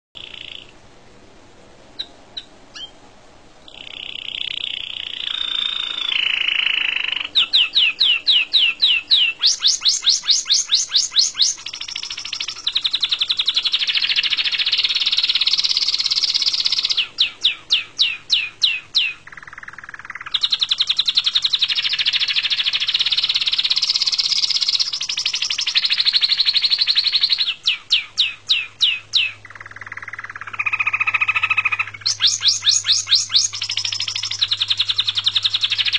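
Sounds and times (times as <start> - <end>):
canary singing whistles and trills: 0.2 - 0.8, 2.0 - 3.0, 3.7 - 35.9.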